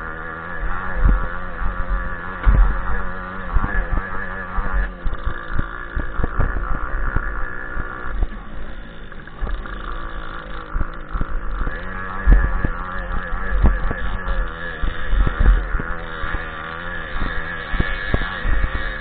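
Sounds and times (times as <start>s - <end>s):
dirt bike engine running: 0.0s - 19.0s
bike knocks and rattles: 0.5s - 19.0s.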